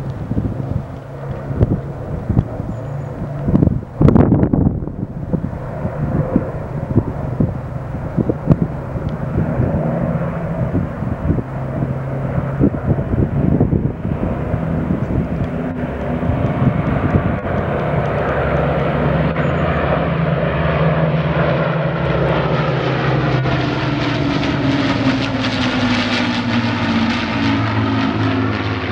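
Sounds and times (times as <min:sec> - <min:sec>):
propeller aircraft engines droning: 0:00.0 - 0:28.9.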